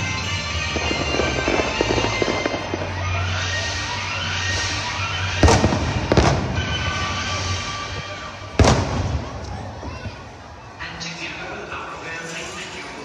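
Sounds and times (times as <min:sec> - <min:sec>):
loud firework bangs: 0:00.0 - 0:10.5
music: 0:00.0 - 0:10.8
fireworks crackling: 0:00.0 - 0:13.0.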